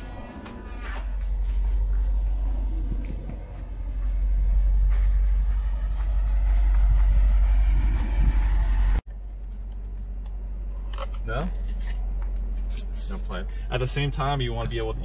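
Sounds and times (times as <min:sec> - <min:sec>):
car engine rumbling: 0:00.0 - 0:15.0
hum inside car cabin: 0:00.0 - 0:15.0.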